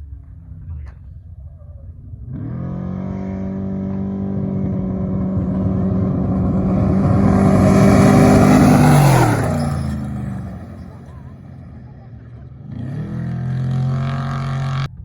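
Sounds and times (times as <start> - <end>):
off-road vehicle engine revving: 2.0 - 15.0.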